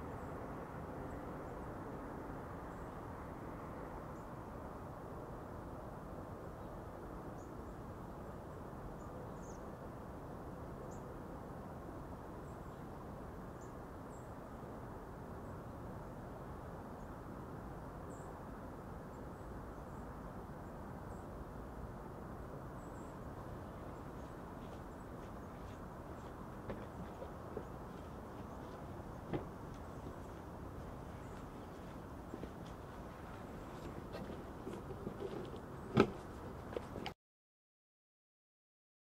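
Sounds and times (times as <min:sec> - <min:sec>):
outdoor rumble and hiss: 0:00.0 - 0:37.2.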